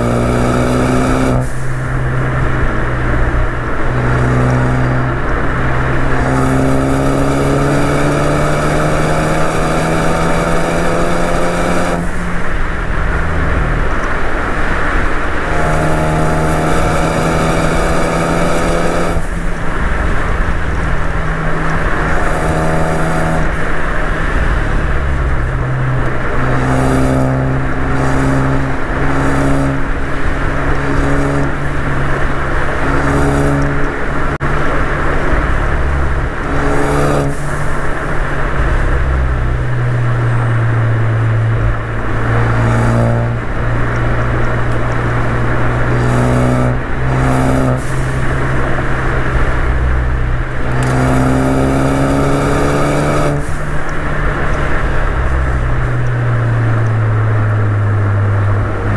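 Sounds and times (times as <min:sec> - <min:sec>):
car engine accelerating hard: 0:00.0 - 0:58.9
wind and tyre noise: 0:00.0 - 0:58.9.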